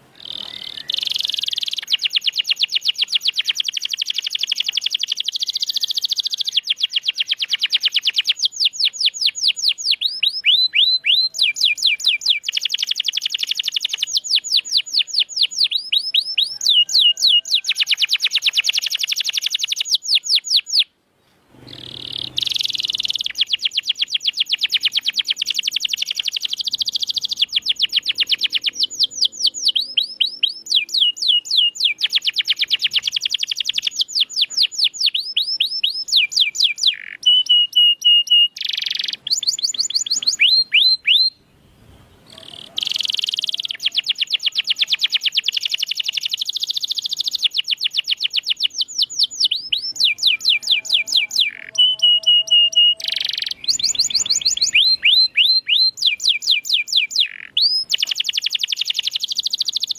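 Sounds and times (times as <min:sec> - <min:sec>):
canary singing trills: 0:00.0 - 0:20.9, 0:21.6 - 0:59.9.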